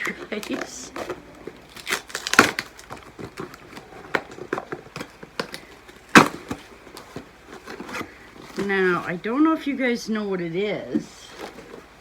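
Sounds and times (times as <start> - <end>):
cardboard box being handled: 0.0 - 9.3, 10.8 - 12.0.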